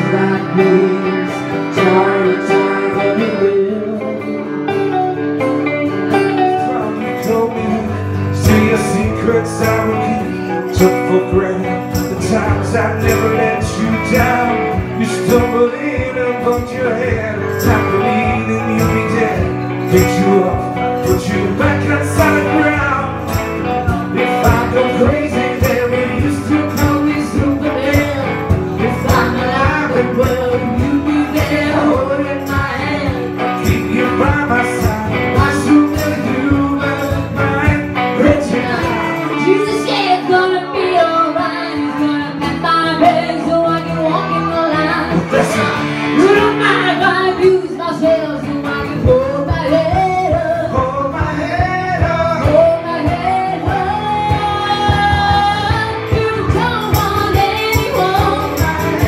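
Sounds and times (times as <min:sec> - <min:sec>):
electric guitar: 0:00.0 - 0:59.0
person singing: 0:00.0 - 0:59.0
strummed acoustic guitar: 0:00.0 - 0:59.0.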